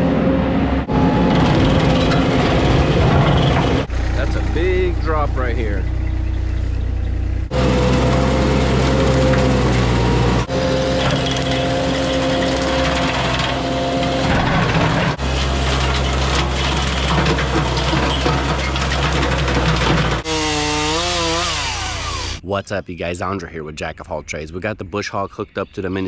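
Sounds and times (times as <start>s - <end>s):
skid steer engine running: 0.0s - 22.4s.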